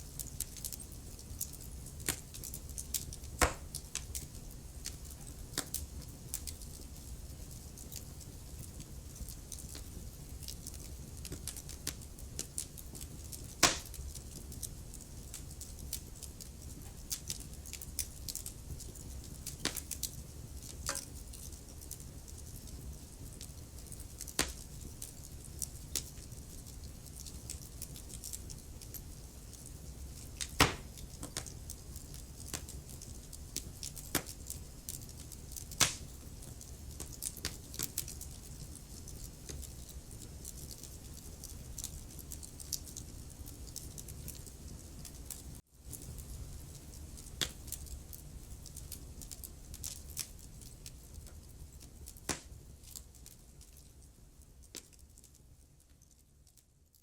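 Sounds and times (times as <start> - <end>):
fire low rumble: 0.0 - 56.5
wood fire crackling: 0.0 - 57.0.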